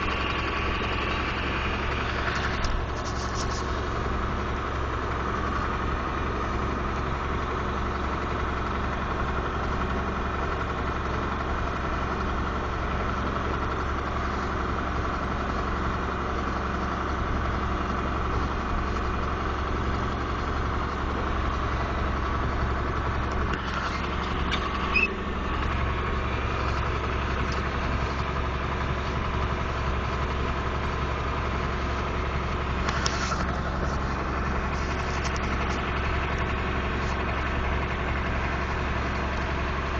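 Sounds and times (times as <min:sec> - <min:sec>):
vehicle engine running steadily: 0:00.0 - 0:39.9.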